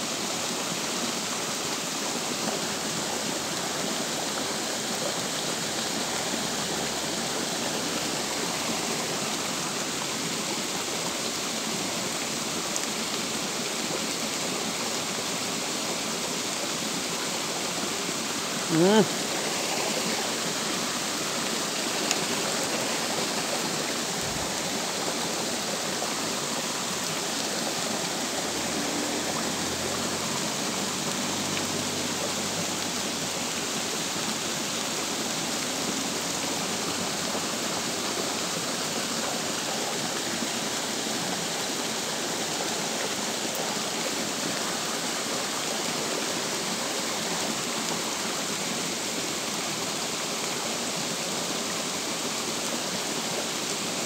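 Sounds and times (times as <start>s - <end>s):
rain falling on stream and leaves: 0.0s - 54.0s.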